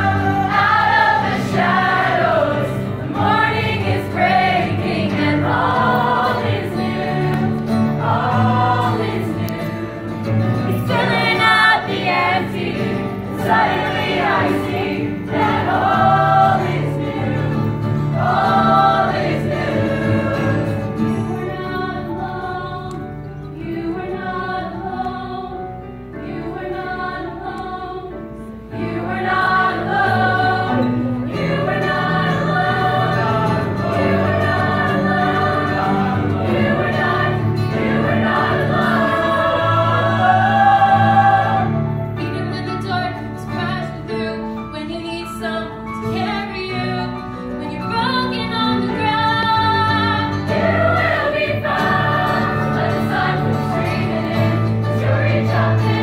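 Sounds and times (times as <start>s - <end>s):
choir singing: 0.0s - 44.1s, 48.2s - 56.0s
keyboard accompaniment: 0.0s - 56.0s.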